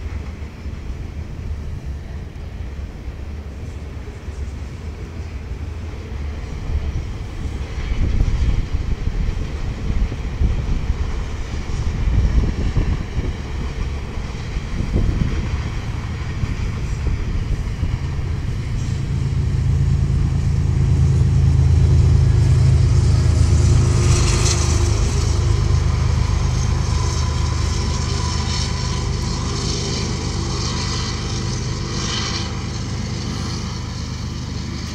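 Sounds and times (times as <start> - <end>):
train rumbling past: 0.0 - 34.9.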